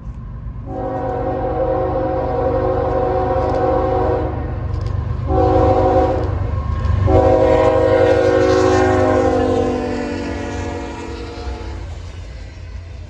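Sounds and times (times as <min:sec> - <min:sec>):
train rumble: 0:00.0 - 0:13.0
locomotive air horn blasts: 0:00.7 - 0:04.5, 0:05.3 - 0:12.0.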